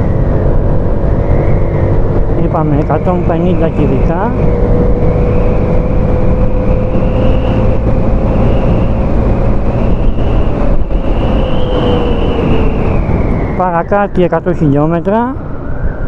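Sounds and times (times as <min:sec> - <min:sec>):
scooter engine droning: 0:00.0 - 0:13.6
wind rush: 0:00.0 - 0:16.0.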